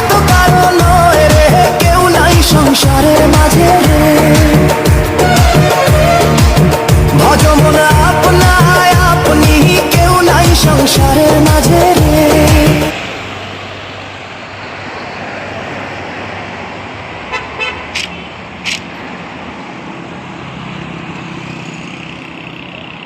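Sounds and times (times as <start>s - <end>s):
road traffic with engine hum: 0.0s - 23.0s.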